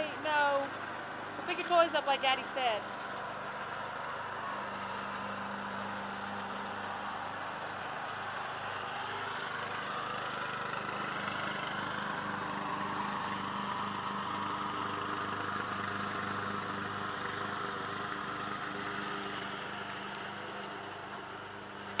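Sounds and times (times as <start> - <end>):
riding lawn mower running: 0.0 - 22.0.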